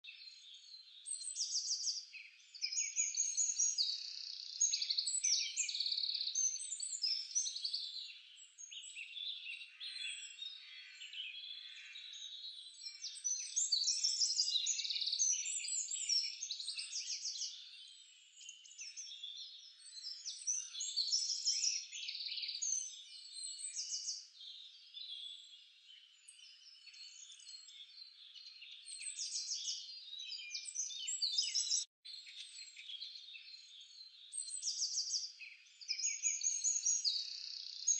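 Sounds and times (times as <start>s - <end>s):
birds chirping and trilling: 0.0s - 37.9s.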